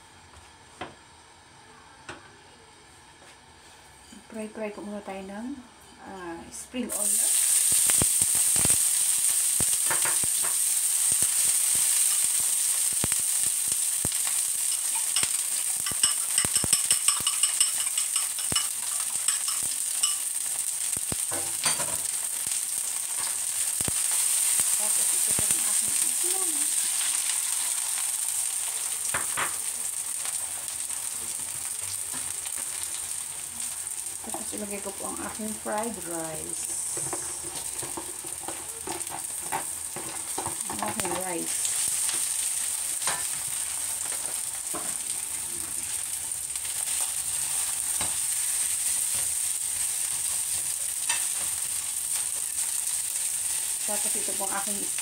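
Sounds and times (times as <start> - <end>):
food sizzling in hot oil: 6.1 - 55.0.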